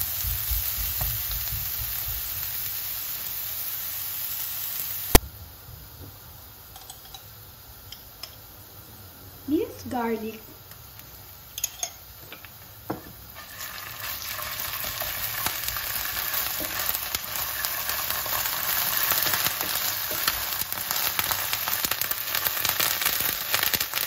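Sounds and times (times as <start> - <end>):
onion and garlic sizzling in oil: 0.0 - 24.0.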